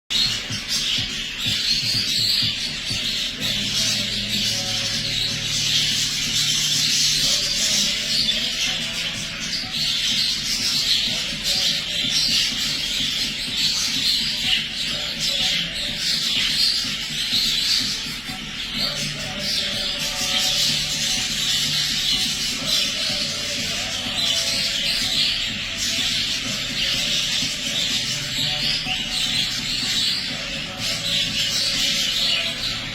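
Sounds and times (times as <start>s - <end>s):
background music: 0.1s - 32.9s
budgerigar chick chattering: 0.1s - 32.9s.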